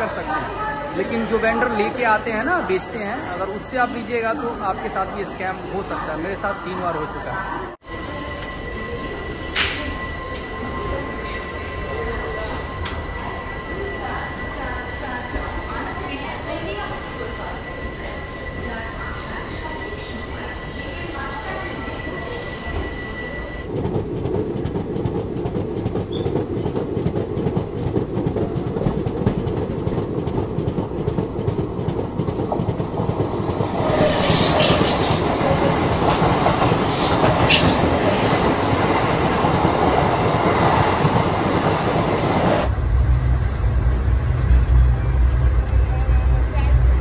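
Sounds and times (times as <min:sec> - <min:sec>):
passing train rushing and clatter: 0:07.8 - 0:47.0
train wheel noise: 0:07.8 - 0:47.0.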